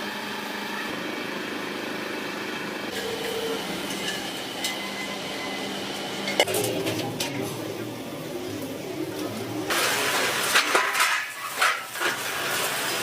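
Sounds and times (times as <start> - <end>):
industrial machinery hum: 0.0 - 13.0.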